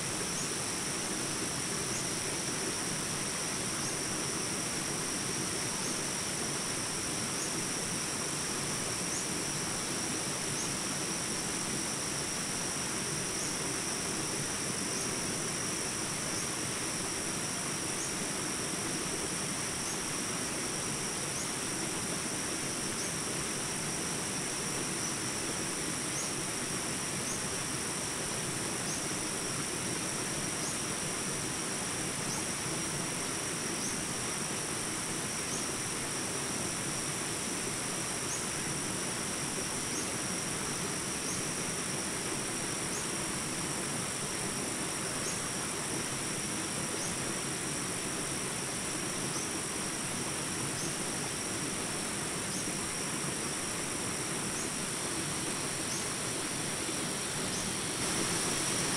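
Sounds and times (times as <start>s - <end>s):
even hiss: 0.0s - 58.9s
high-pitched insect chorus: 0.0s - 58.9s.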